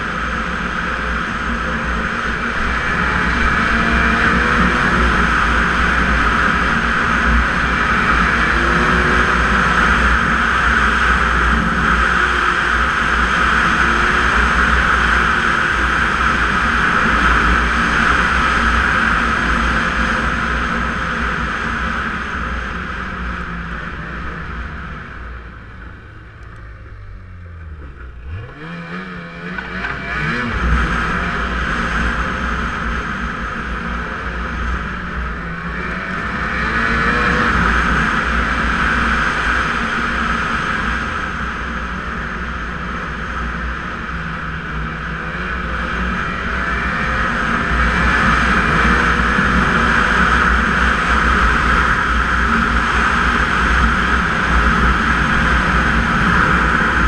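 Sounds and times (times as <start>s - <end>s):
snowmobile engine: 0.0s - 57.0s.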